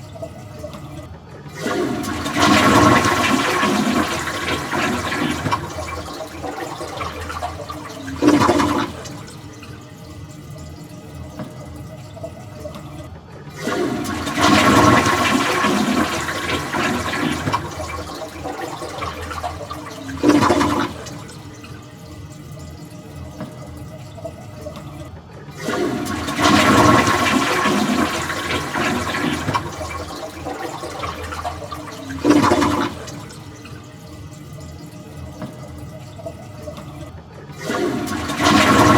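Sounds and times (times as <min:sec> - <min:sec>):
toilet flushing: 0:00.0 - 0:38.9.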